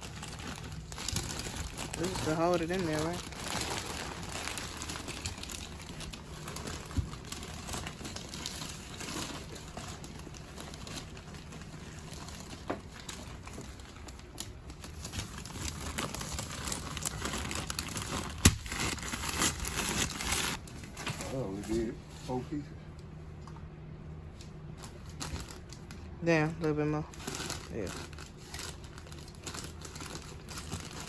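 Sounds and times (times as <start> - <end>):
insulation paper crinkling: 0.0 - 22.4, 27.1 - 31.0.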